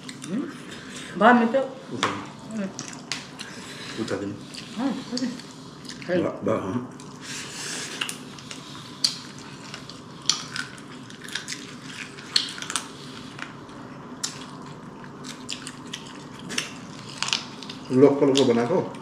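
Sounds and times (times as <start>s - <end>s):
chewing: 0.0s - 1.1s, 2.6s - 6.1s, 6.9s - 19.0s.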